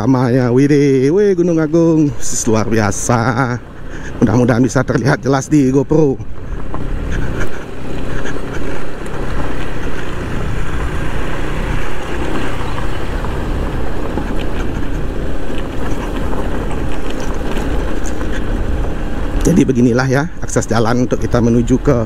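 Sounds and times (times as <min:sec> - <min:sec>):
scooter engine running: 0:00.8 - 0:20.4.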